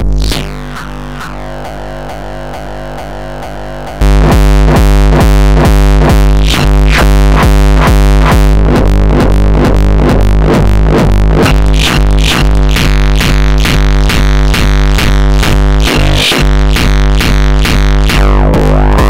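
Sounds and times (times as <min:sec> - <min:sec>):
distorted kick drum loop: 0:00.0 - 0:19.0.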